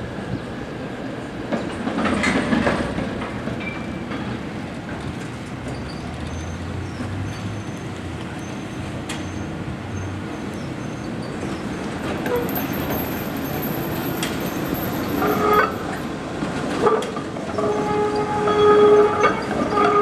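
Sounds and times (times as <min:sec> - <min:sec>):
streetcar running on rails: 0:00.0 - 0:20.0
wheels clicking over track: 0:01.5 - 0:18.4.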